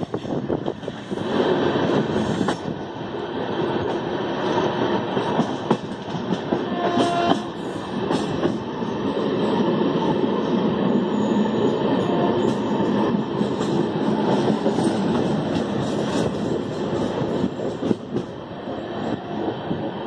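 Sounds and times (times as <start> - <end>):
rail joint clacks: 0.0 - 19.9
train wheels rumbling on rails: 0.0 - 20.0.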